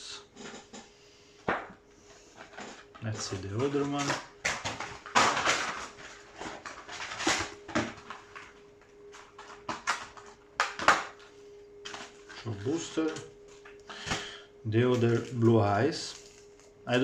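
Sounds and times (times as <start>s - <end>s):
faint steady hum: 0.0s - 17.0s
packaging rustling and crinkling: 2.2s - 17.0s.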